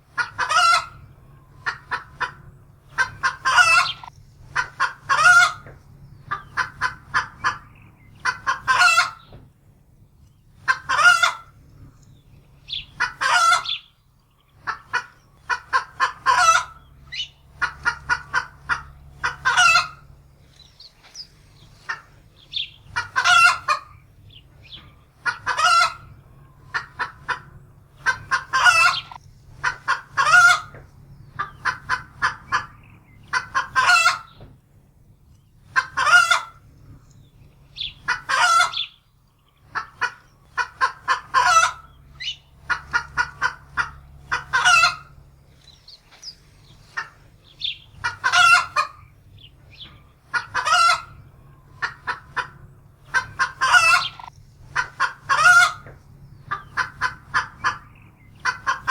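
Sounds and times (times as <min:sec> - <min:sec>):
hen cackling in alarm: 0:00.1 - 0:09.3, 0:10.6 - 0:11.6, 0:12.7 - 0:13.9, 0:14.5 - 0:34.4, 0:35.6 - 0:36.7, 0:37.7 - 0:39.0, 0:39.6 - 0:58.9.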